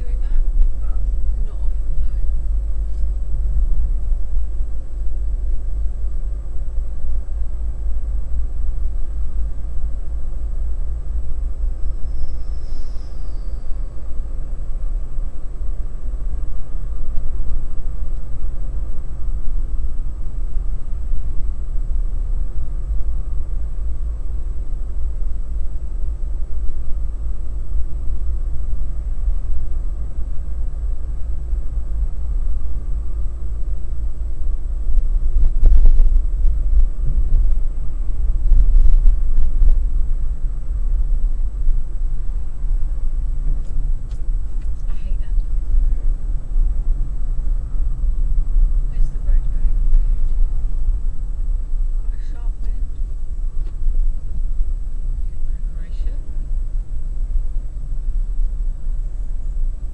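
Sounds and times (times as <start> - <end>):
car interior engine and road rumble: 0.0 - 59.9.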